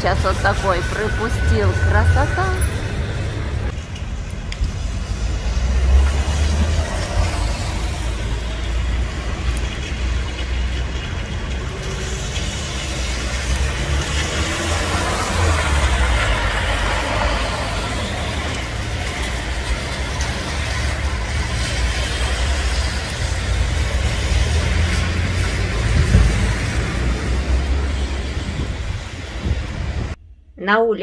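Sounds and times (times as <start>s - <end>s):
low traffic rumble: 0.0s - 30.6s
car tyres hissing on wet road: 4.6s - 30.2s.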